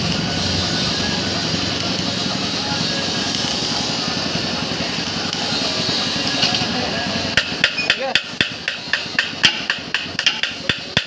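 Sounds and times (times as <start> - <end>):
welding arc crackling and hissing: 0.0 - 11.0.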